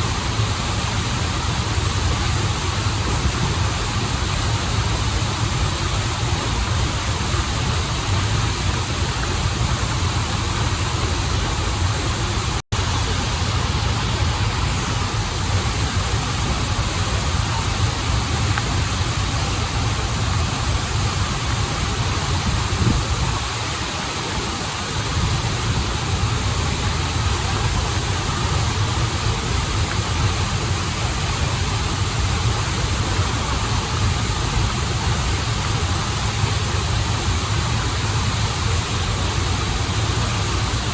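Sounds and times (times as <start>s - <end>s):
waterfall and stream rushing: 0.0s - 40.9s.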